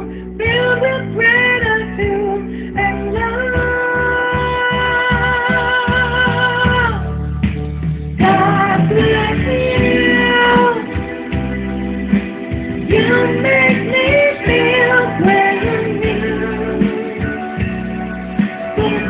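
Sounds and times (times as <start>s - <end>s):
person singing with vibrato: 0.0s - 7.2s, 8.2s - 11.2s, 12.9s - 19.0s
guitar accompaniment: 0.0s - 19.0s.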